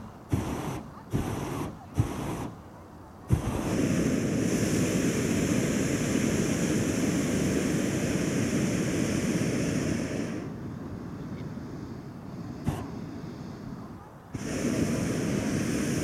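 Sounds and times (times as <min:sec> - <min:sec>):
propane burner rushing blast: 0:00.0 - 0:02.6, 0:03.2 - 0:16.0.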